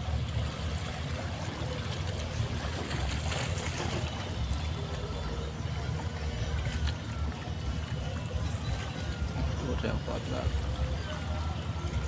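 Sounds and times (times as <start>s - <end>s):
small waves lapping against rocks: 0.0s - 12.0s.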